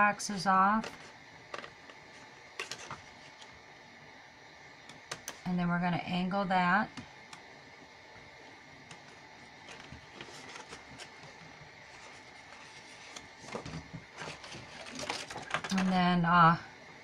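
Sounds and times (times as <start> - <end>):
faint high hum: 0.0 - 17.0.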